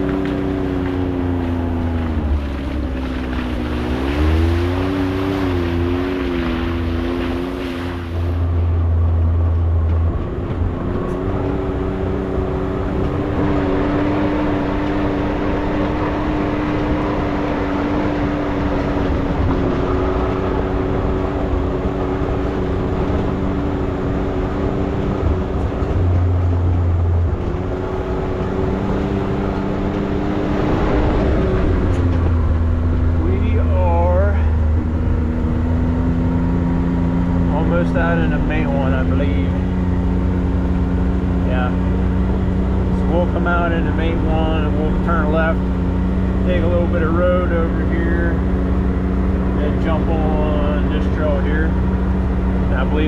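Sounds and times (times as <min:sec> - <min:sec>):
off-road vehicle engine running: 0:00.0 - 0:53.0.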